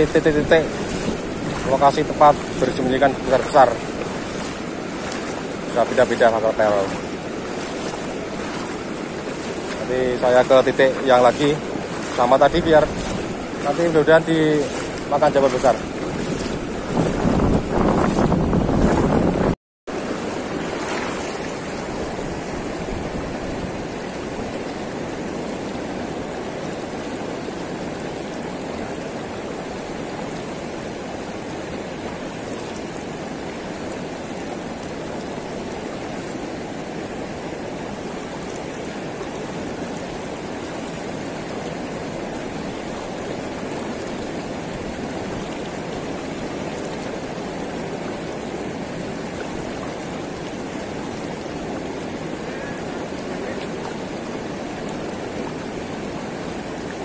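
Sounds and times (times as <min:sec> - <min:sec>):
river water rushing over weir: 0:00.0 - 0:57.0.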